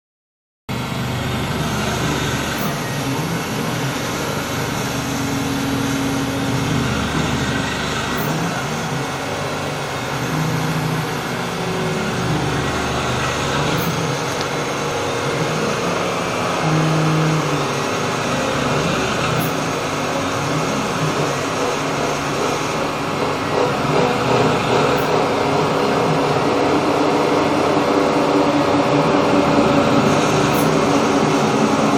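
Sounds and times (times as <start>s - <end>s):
machine tool running: 0.7s - 31.9s.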